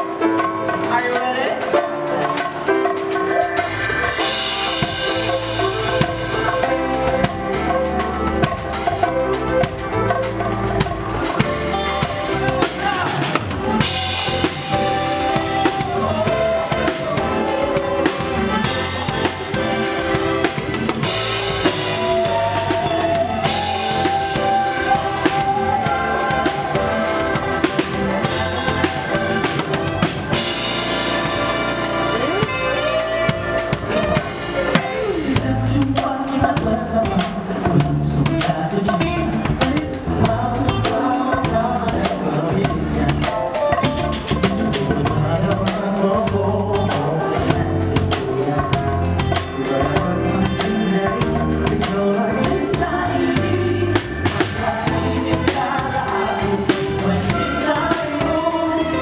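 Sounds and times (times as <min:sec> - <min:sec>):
trumpet and saxophones: 0:00.0 - 0:36.2, 0:42.4 - 0:59.0
drum kit beat: 0:00.0 - 0:59.0
live band music: 0:00.0 - 0:59.0
piano: 0:00.0 - 0:59.0.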